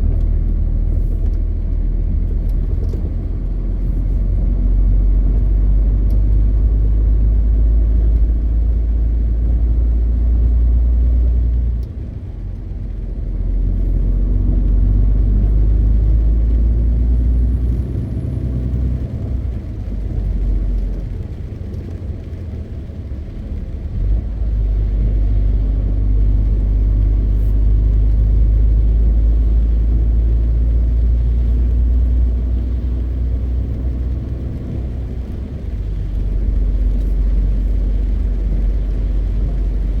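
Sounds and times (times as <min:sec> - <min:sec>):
road noise: 0:00.0 - 0:40.0
truck diesel engine rumble: 0:00.0 - 0:40.0.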